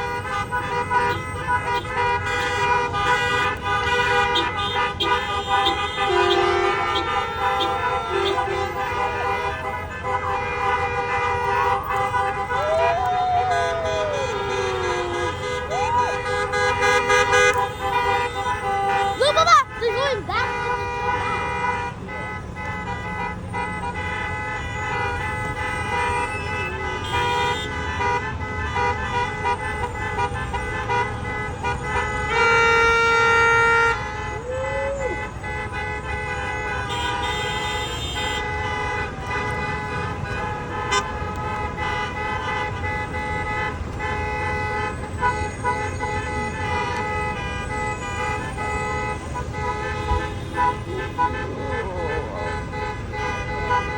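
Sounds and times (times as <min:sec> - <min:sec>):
bus horns honking: 0:00.0 - 0:53.9
long loud horn blast: 0:00.0 - 0:53.9.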